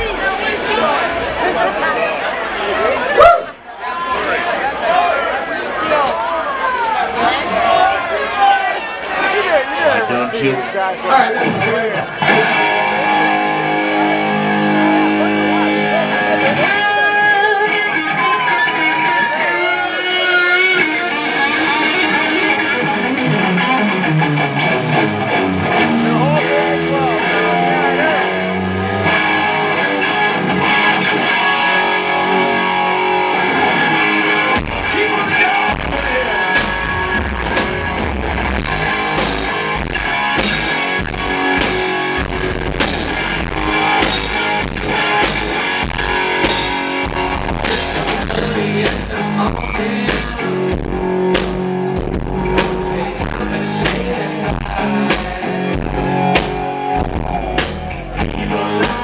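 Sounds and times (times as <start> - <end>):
bass guitar: 11.4 - 59.0
drums: 11.4 - 59.0
electric guitar: 11.4 - 59.0.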